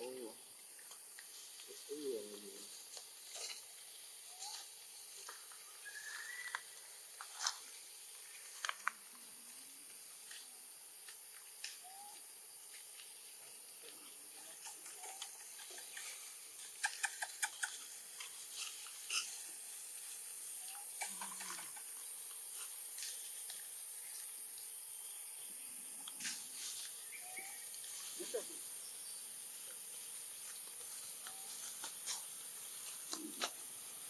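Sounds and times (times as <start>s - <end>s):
high hiss: 0.0s - 34.0s.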